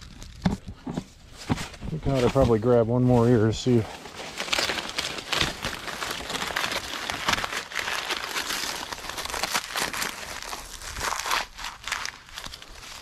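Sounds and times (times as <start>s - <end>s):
dry corn leaves crackling: 0.0s - 0.6s, 1.9s - 13.0s.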